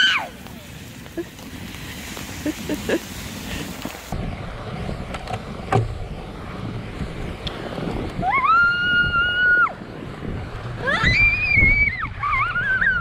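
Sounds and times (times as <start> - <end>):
bike rolling through snow: 0.0 - 13.0
wind rumbling on microphone: 0.0 - 13.0.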